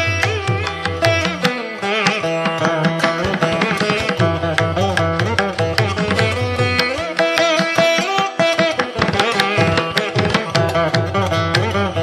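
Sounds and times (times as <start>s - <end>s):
hand drum strokes: 0.0s - 12.0s
plucked string instrument melody: 0.0s - 12.0s.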